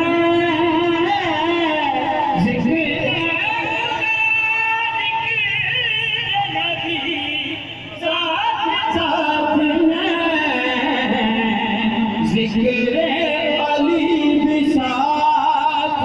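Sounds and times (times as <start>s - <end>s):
man singing drawn-out notes: 0.0s - 16.0s.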